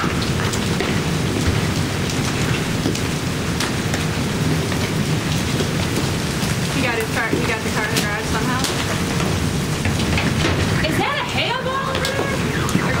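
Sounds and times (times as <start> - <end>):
hail and rain pelting: 0.0 - 13.0
hailstones striking hard surfaces: 0.0 - 13.0.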